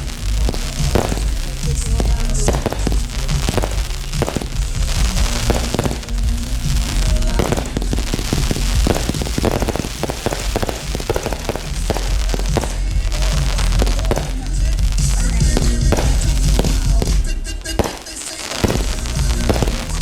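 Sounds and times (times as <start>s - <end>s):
fireworks bangs and crackles: 0.0s - 20.0s
music with steady bass: 0.0s - 20.0s.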